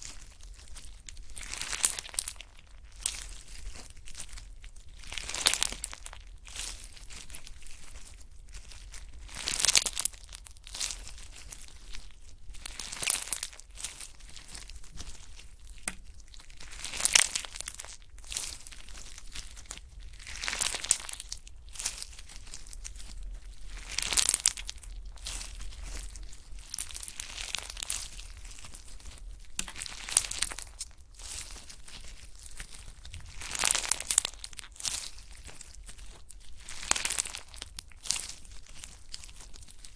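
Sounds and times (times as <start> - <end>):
slime squishing: 4.9 - 39.9.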